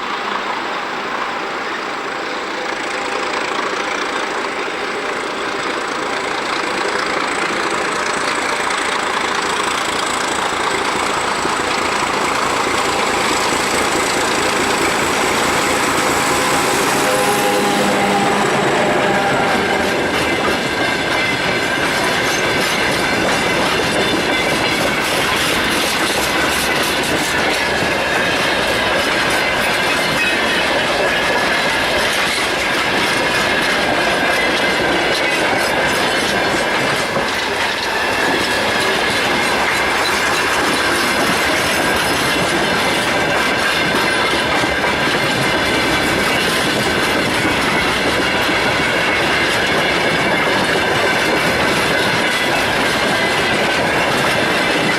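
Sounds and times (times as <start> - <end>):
train wheels clacking over rail joints: 0.0 - 54.9
high wheel squeal: 7.0 - 54.9.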